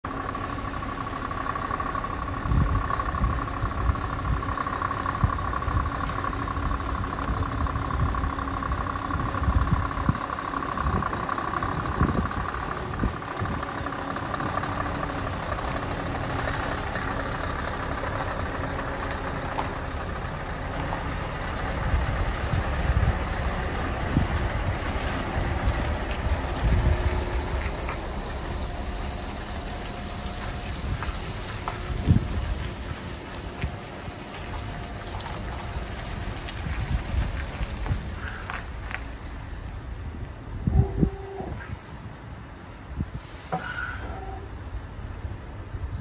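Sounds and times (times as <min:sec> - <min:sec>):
diesel truck engine running: 0:00.0 - 0:46.0
steady engine whine: 0:00.0 - 0:46.0
wind buffeting microphone: 0:02.0 - 0:43.3.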